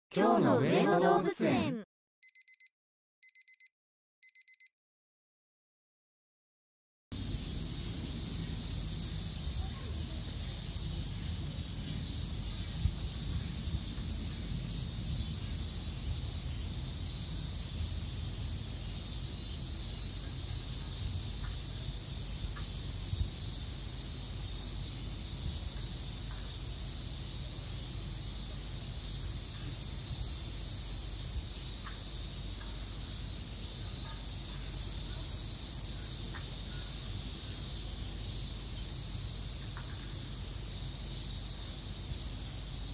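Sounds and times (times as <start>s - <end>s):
cicadas chirring: 7.2s - 42.9s.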